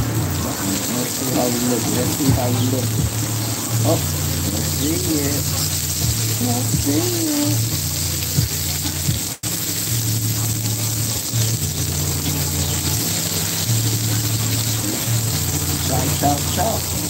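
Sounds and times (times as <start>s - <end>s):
meat patties sizzling on griddle: 0.0s - 17.0s.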